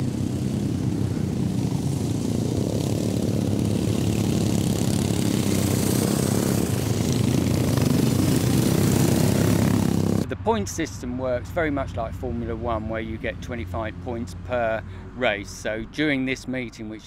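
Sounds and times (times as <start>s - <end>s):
racing lawnmower engines: 0.0s - 17.0s.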